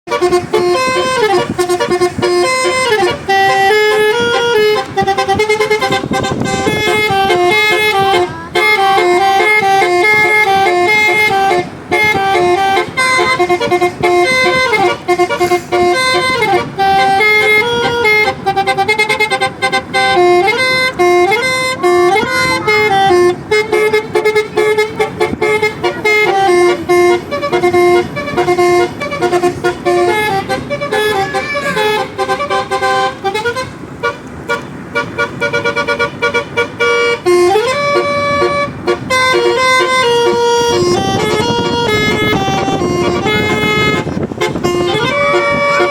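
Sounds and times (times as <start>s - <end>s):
multi-tone musical vehicle horn: 0.0s - 45.9s.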